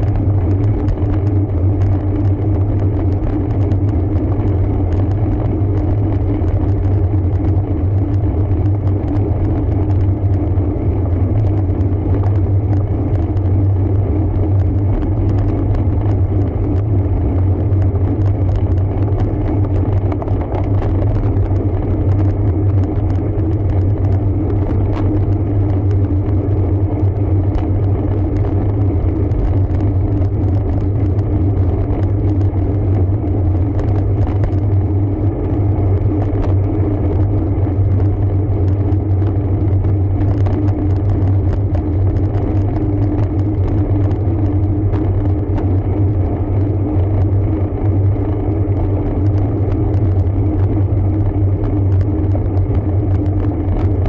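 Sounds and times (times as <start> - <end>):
wind and road noise rumble: 0.0 - 54.0.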